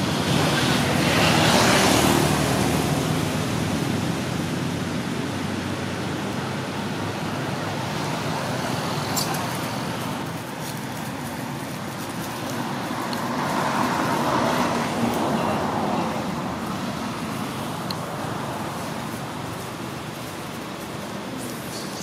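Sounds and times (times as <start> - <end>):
road traffic hum: 0.0 - 22.0
vehicle passing: 0.0 - 22.0.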